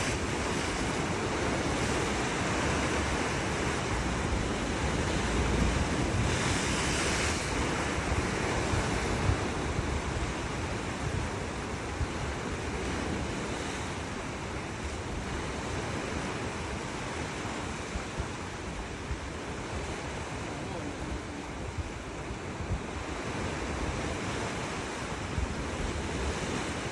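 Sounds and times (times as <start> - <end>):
surf washing onto shore: 0.0 - 26.9
wind buffeting microphone: 0.0 - 26.9.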